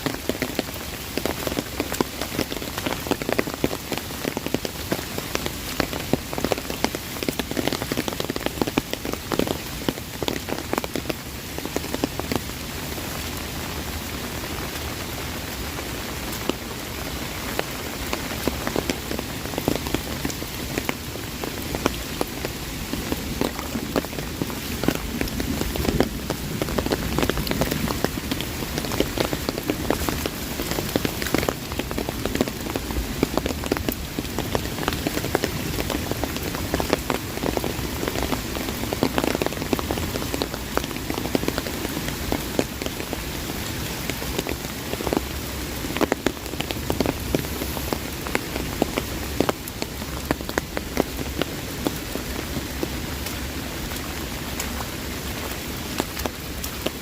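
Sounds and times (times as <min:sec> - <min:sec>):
heavy rain on an umbrella: 0:00.0 - 0:57.0.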